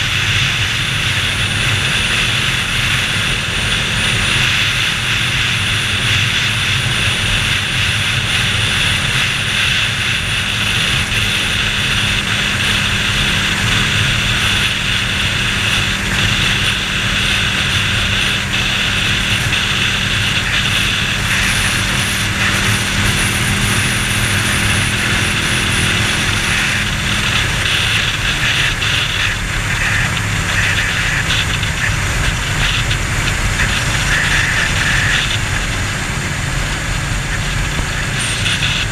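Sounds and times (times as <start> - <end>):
motorcycle engine cruising: 0.0 - 38.9
wind rushing over camera: 0.0 - 38.9.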